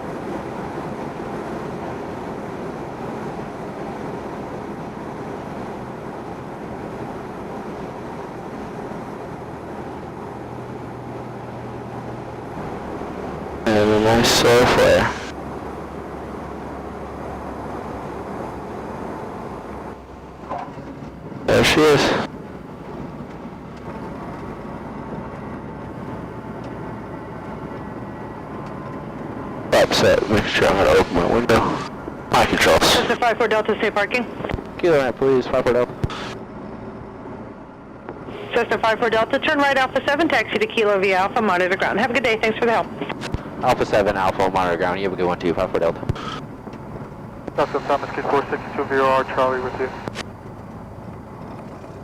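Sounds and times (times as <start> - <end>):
aircraft engine and propeller: 0.0 - 52.0.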